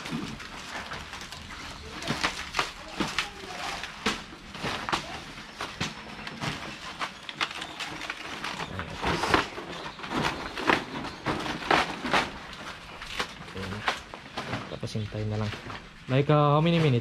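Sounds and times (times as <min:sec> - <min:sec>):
banana leaves rustling and crinkling: 0:00.0 - 0:17.0.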